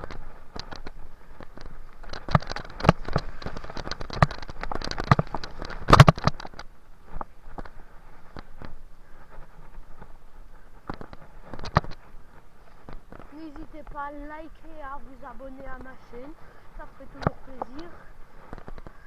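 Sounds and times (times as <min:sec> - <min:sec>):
bike knocking and rattling: 0:00.0 - 0:19.0
tyres crunching over leaves and mud: 0:00.0 - 0:19.0.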